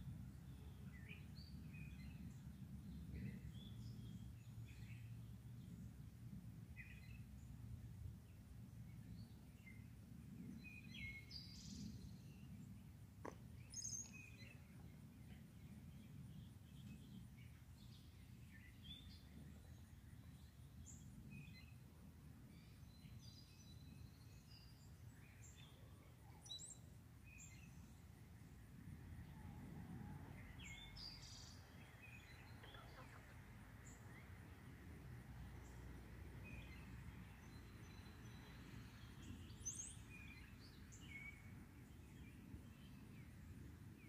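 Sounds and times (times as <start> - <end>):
faint songbirds chirping: 0.0 - 44.0.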